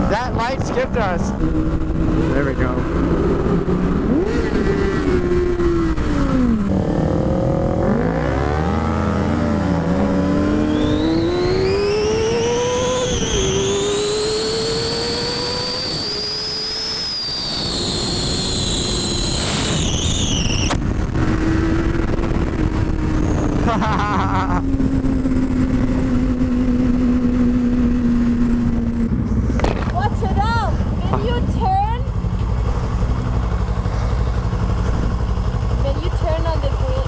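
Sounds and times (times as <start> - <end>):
high whine: 0.0 - 36.0
motorcycle engine revving: 0.0 - 37.0.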